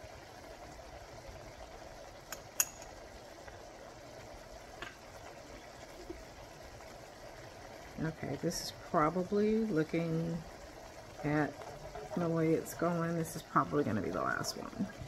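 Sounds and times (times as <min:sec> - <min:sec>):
gravy simmering with hiss: 0:00.0 - 0:15.0.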